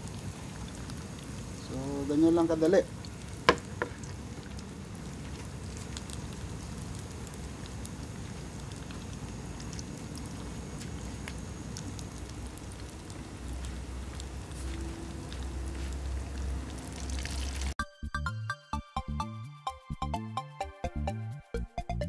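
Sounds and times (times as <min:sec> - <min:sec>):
food deep-frying in oil: 0:00.0 - 0:17.8
oil popping and crackling: 0:00.0 - 0:17.8.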